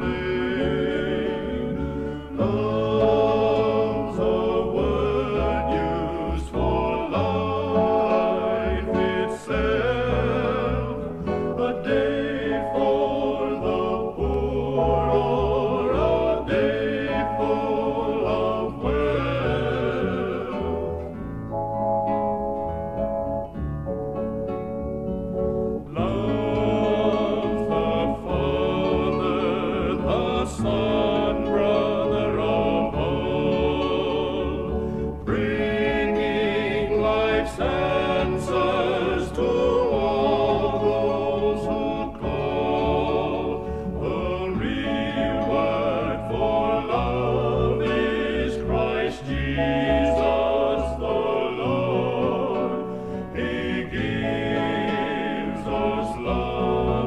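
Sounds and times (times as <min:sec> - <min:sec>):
male vocal quartet singing harmony: 0:00.0 - 0:22.2, 0:25.6 - 0:57.0.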